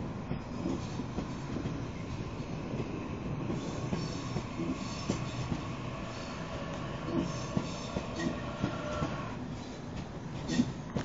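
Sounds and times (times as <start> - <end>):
clicks and knocks of train cars: 0.0 - 6.0, 6.6 - 11.0
train wheels rumbling on rail: 0.0 - 11.0.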